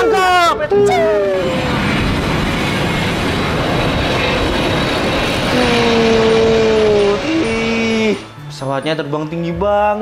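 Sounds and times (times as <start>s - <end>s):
jet engines roaring: 0.0s - 8.6s.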